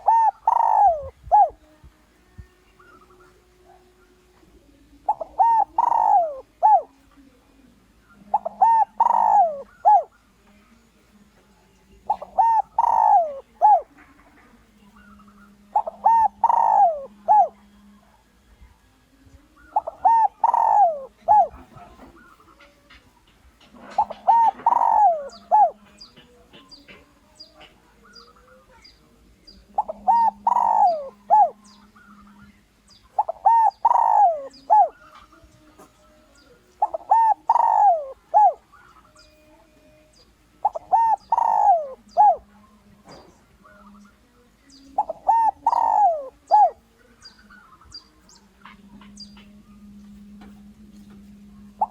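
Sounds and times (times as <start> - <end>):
dove cooing: 0.0 - 10.6, 12.0 - 51.9.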